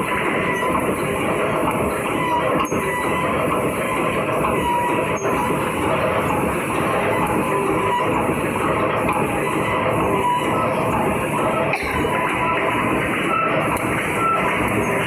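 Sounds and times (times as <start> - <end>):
wire mesh machine running: 0.0 - 15.0.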